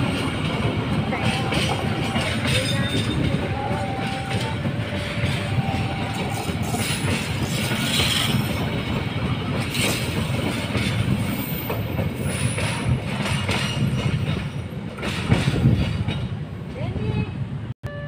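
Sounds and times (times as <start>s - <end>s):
wheels knocking on rail joints: 0.0s - 16.9s
train wheels rumbling on track: 0.0s - 17.7s.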